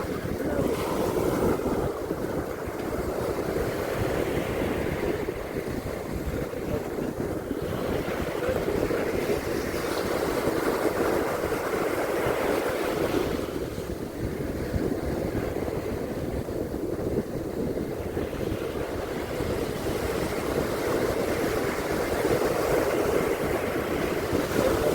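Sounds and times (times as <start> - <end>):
ocean surf washing on beach: 0.0 - 24.9
wind rumbling on microphone: 0.0 - 24.9.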